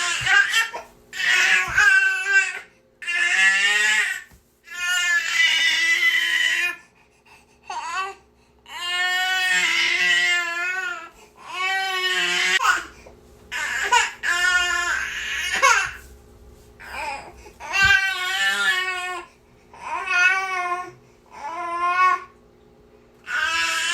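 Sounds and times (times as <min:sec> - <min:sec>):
baby crying: 0:00.0 - 0:06.8, 0:07.7 - 0:12.9, 0:13.5 - 0:16.0, 0:16.8 - 0:22.3, 0:23.3 - 0:23.9.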